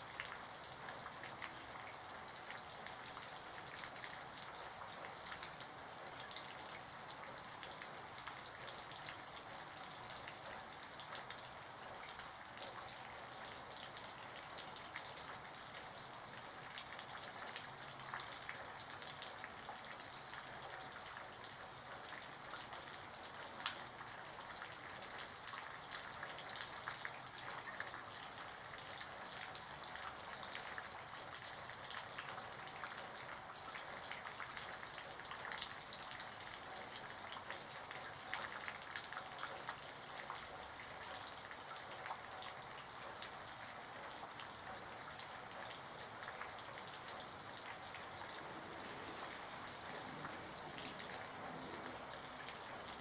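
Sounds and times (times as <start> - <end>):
light rain falling: 0.0 - 53.0.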